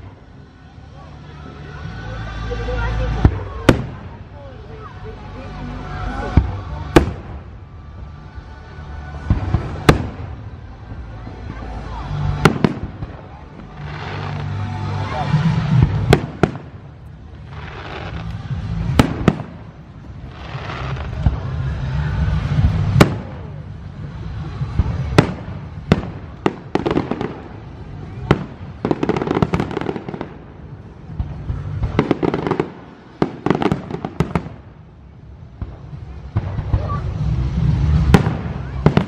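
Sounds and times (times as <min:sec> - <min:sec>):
fireworks bangs: 0:00.0 - 0:04.8, 0:05.7 - 0:39.0
fireworks crackling: 0:00.0 - 0:39.0.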